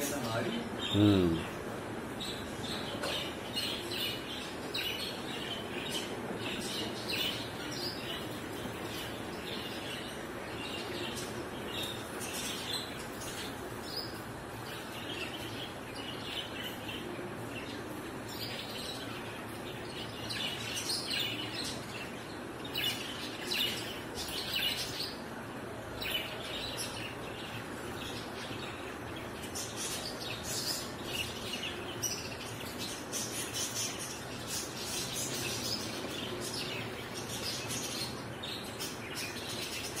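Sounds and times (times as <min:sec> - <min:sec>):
small birds chirping: 0:00.0 - 0:40.0
steady background noise: 0:00.0 - 0:40.0.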